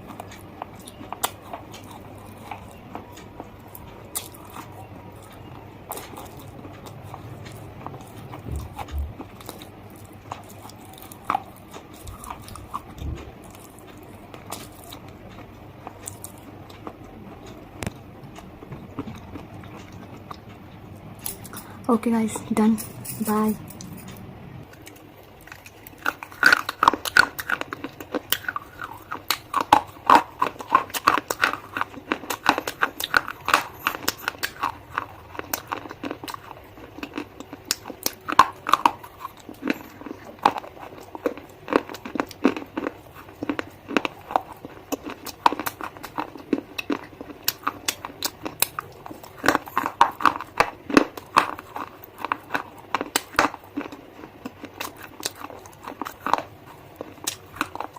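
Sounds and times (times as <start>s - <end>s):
person chewing crunchy bars: 0.0s - 21.9s, 22.9s - 57.9s.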